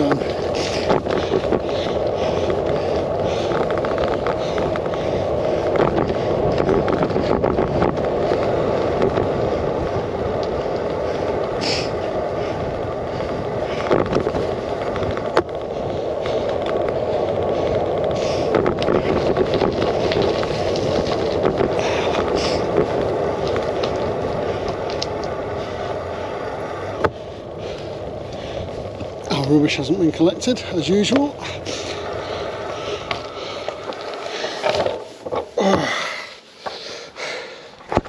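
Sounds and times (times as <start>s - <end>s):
bicycle tyre and frame rumble: 0.0s - 38.0s
wheels knocking on bumps: 0.0s - 38.0s.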